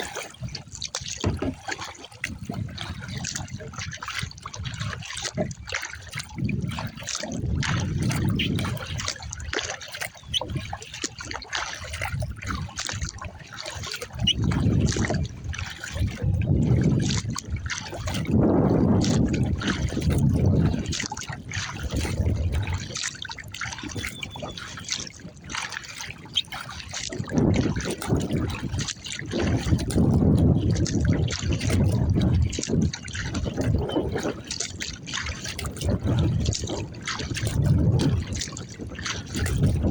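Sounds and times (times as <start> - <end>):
water splashing around kayak: 0.0 - 39.9.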